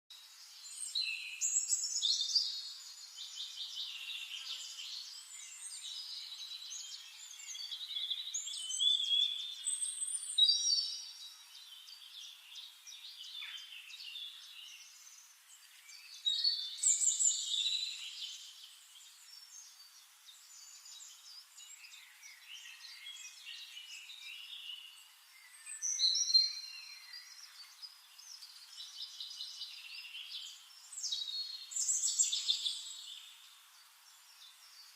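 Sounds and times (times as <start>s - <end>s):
songbirds singing and chirping: 0.1s - 34.9s.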